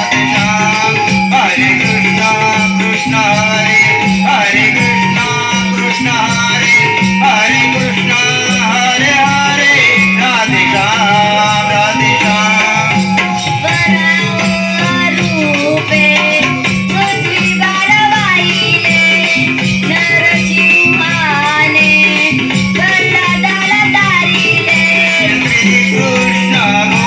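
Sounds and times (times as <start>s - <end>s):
boy singing over loudspeaker: 0.0s - 27.0s
instrumental accompaniment: 0.0s - 27.0s
percussion rhythm: 0.0s - 27.0s.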